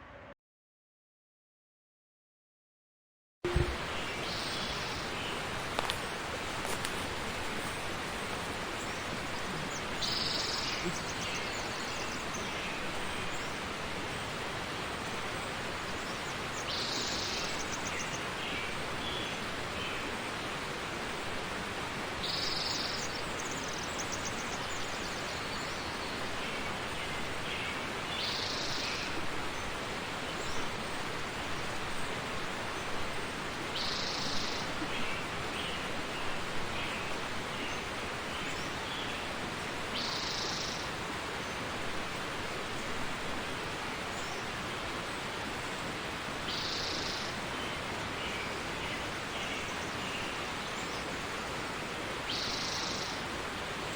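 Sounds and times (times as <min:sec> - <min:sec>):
steady hiss: 0:03.5 - 0:53.9.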